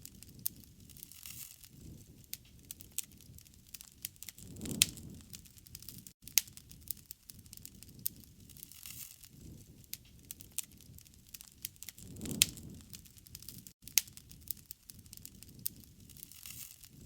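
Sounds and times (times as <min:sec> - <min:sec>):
low rumble of burning: 0:00.0 - 0:17.0
sharp pops from fire: 0:00.0 - 0:17.0
wood fire crackling: 0:00.0 - 0:17.0.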